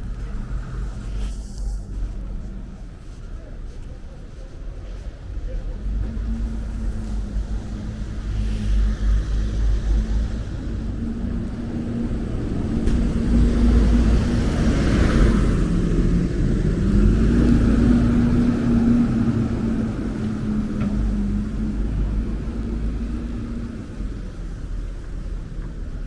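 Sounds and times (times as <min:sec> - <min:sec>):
engine running with deep rumble: 0:00.0 - 0:26.0.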